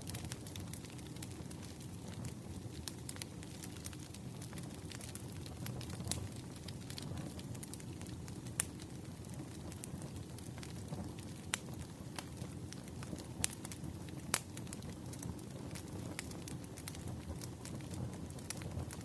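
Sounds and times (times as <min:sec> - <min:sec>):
burning logs rumbling: 0:00.0 - 0:19.0
fire popping and snapping: 0:00.0 - 0:19.0.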